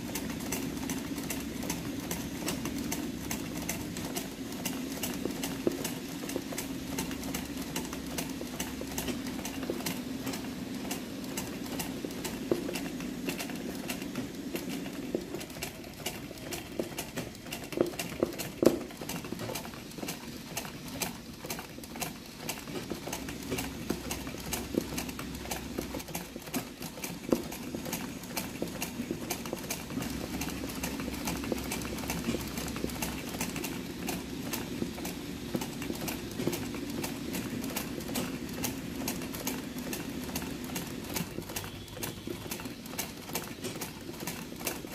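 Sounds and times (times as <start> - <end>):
sewing machine stitching: 0.0 - 44.9.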